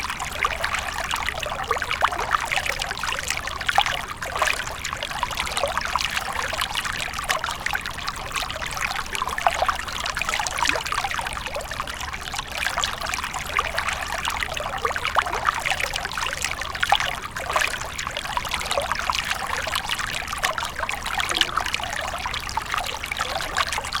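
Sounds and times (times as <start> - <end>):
brook running over stones: 0.0 - 24.0.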